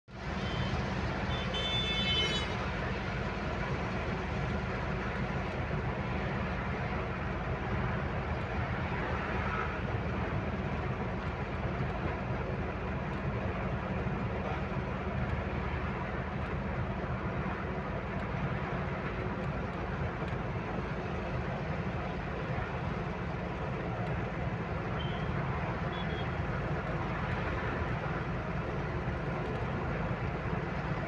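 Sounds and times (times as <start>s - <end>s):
road and tyre noise: 0.0s - 31.0s
truck engine drone: 0.1s - 31.0s.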